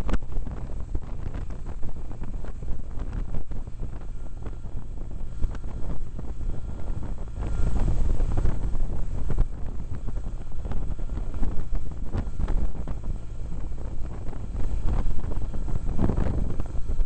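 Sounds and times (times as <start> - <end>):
motorcycle engine drone: 0.0 - 17.0
wind buffeting microphone: 0.0 - 17.0.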